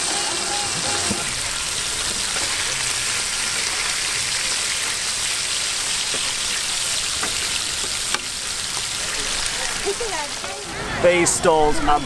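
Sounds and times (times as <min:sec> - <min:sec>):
fish sizzling in oil: 0:00.0 - 0:10.8.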